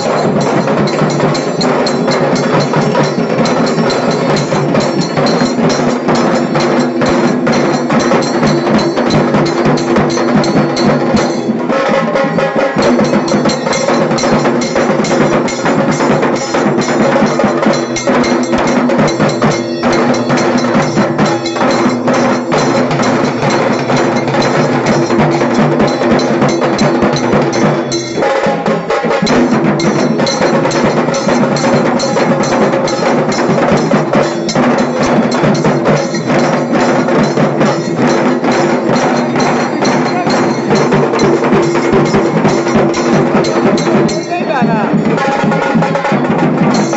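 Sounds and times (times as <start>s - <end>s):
deep dhol drum: 0.0s - 46.9s
tasha drums rattling: 0.0s - 46.9s.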